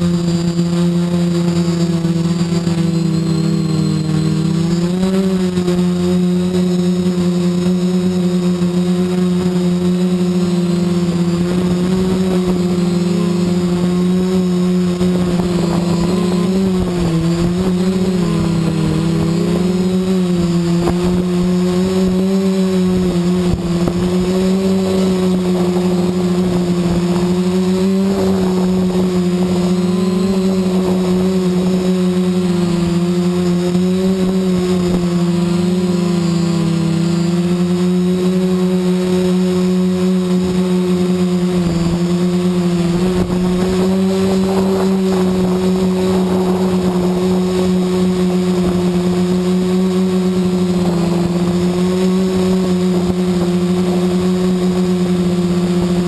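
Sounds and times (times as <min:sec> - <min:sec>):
quadcopter motors buzzing: 0:00.0 - 0:56.0.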